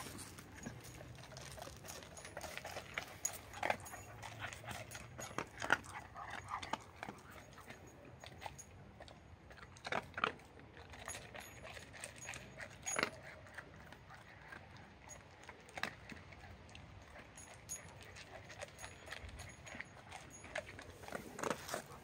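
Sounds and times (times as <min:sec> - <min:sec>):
dog crunching dry kibble: 0:00.0 - 0:22.0.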